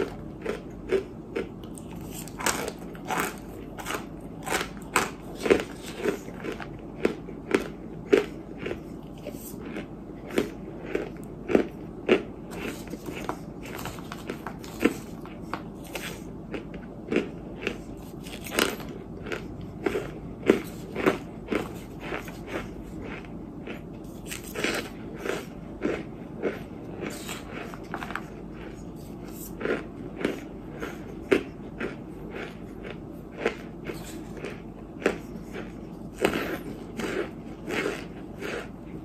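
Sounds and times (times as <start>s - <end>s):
crunching and chewing clay: 0.0s - 39.0s.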